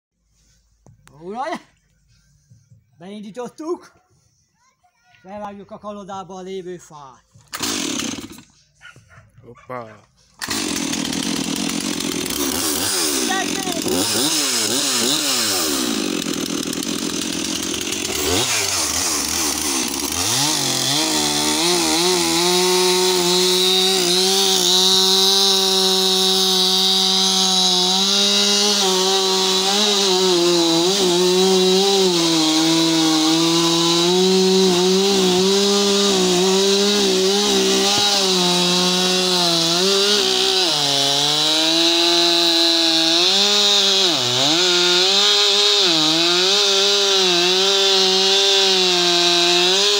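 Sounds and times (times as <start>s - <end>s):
chainsaw cutting logs: 7.4s - 8.8s, 10.3s - 49.9s.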